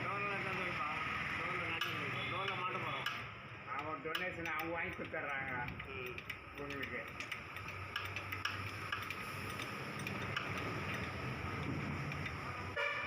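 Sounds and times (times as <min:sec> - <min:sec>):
metallic hand tool clicks: 0:01.8 - 0:12.4.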